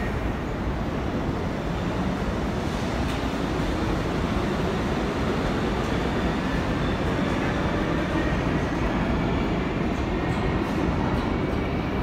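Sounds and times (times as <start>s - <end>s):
subway train rail noise: 0.0s - 12.0s.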